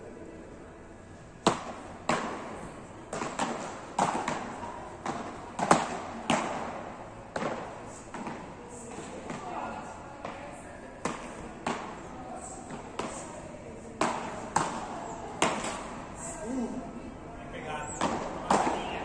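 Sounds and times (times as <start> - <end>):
paddles hitting ball in a hall: 0.0 - 19.0.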